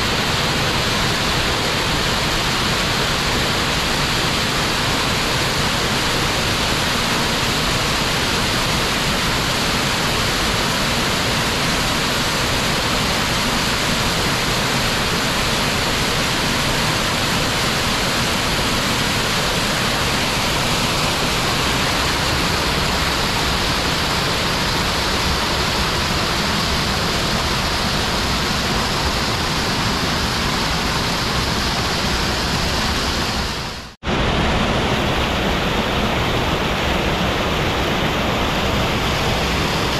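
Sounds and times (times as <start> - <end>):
small waterfall rushing over boulders: 0.0 - 39.9.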